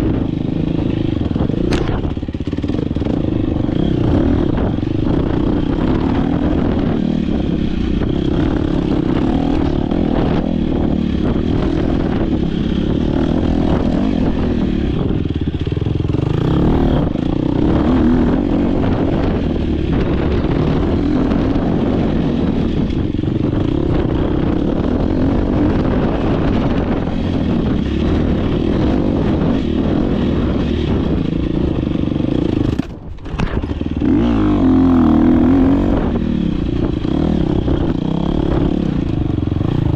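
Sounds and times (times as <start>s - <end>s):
dirt bike engine revving: 0.0s - 39.9s
suspension clatter over rough ground: 0.0s - 39.9s.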